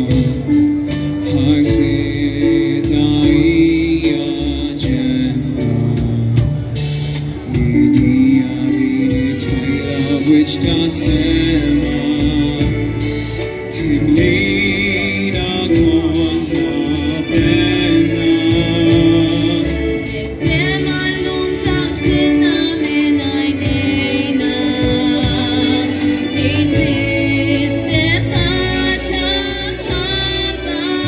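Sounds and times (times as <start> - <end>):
person singing into microphone: 0.0 - 31.0
wind band playing: 0.0 - 31.0.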